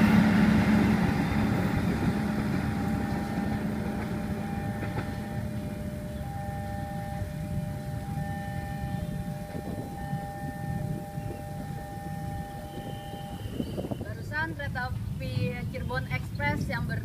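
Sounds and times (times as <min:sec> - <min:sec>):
level crossing alarm tone: 0:00.0 - 0:14.1
traffic rumble: 0:00.0 - 0:17.0.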